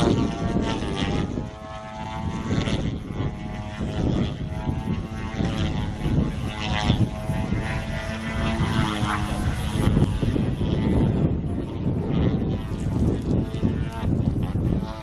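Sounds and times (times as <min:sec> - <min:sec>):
model airplane motor: 0:00.0 - 0:15.0
wind buffeting microphone: 0:00.0 - 0:15.0.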